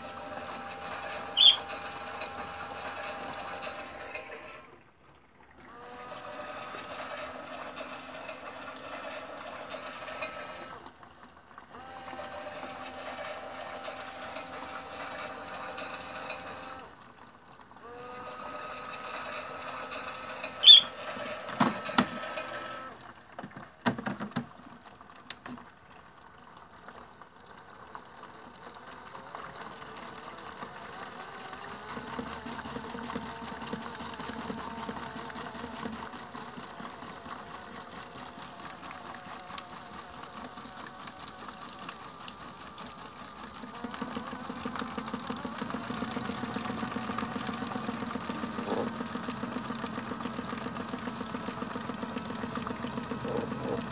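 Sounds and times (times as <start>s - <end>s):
toy washing machine motor humming: 0.0s - 53.9s.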